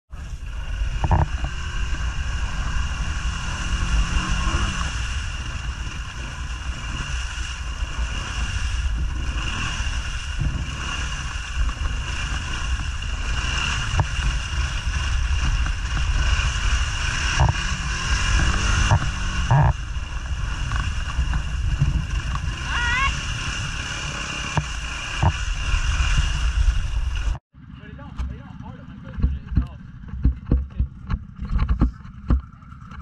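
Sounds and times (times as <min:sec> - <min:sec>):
wind noise on microphone: 0:00.1 - 0:27.4
atv engine running under load: 0:00.1 - 0:33.0
tyres churning through mud: 0:00.1 - 0:33.0.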